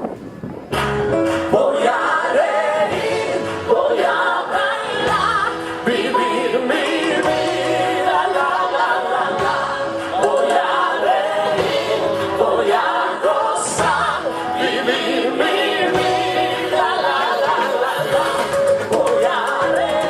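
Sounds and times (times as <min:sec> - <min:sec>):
voices singing: 0:01.4 - 0:20.0.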